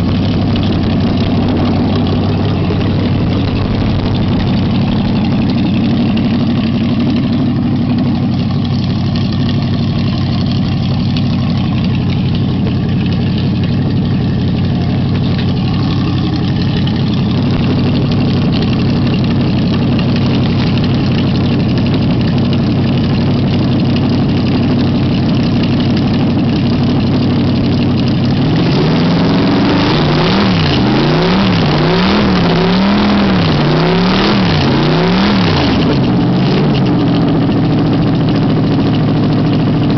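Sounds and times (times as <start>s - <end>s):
race engine idling and revving: 0.0s - 39.9s.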